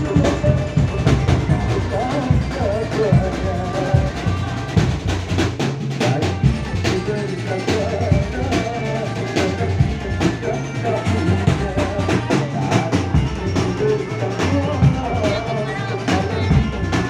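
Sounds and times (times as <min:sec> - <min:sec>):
music with drum beat and melody: 0:00.0 - 0:17.0.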